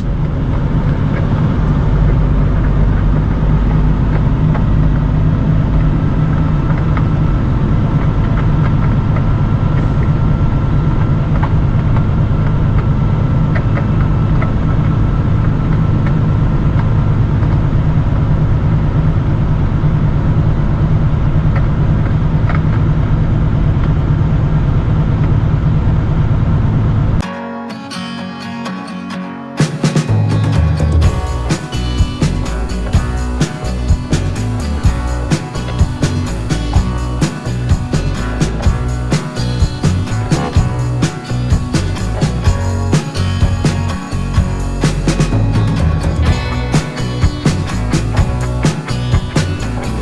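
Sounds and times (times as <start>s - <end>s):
truck engine and road noise: 0.0s - 27.2s, 30.0s - 50.0s.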